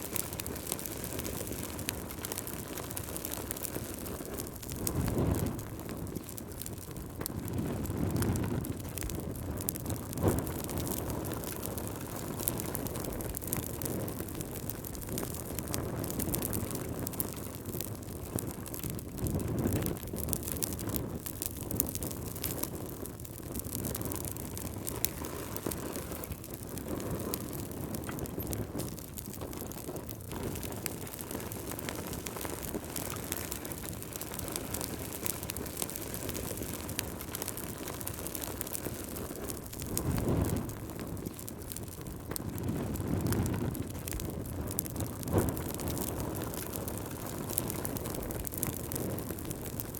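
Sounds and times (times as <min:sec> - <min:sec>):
low wind: 0:00.0 - 0:49.9
wood fire crackling: 0:00.0 - 0:49.9.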